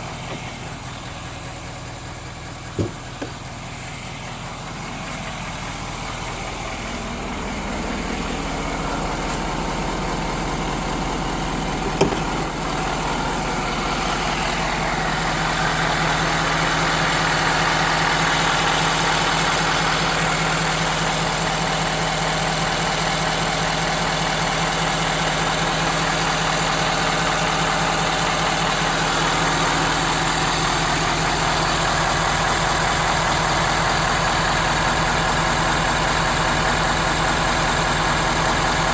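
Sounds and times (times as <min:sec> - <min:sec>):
diesel engine idling clatter: 0:00.0 - 0:38.9.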